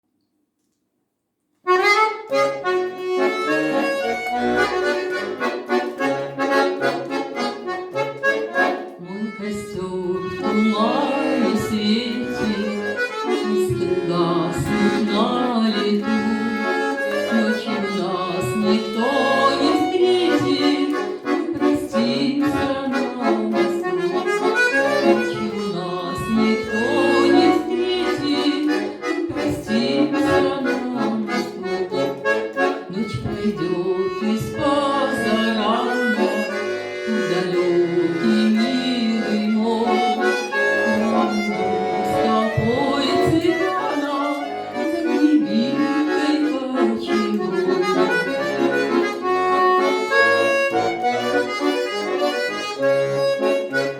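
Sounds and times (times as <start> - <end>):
accordion playing a melody: 1.6 - 53.9.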